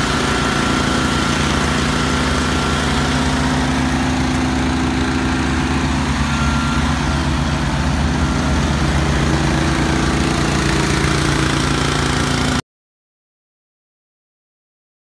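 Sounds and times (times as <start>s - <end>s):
small gasoline engine running: 0.0s - 12.6s.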